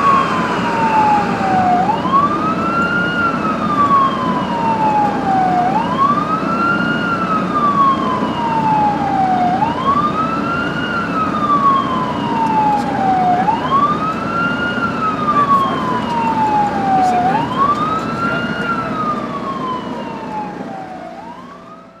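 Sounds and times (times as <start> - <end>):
moving vehicle rumble: 0.0 - 21.7
ambulance siren wailing: 0.0 - 22.0.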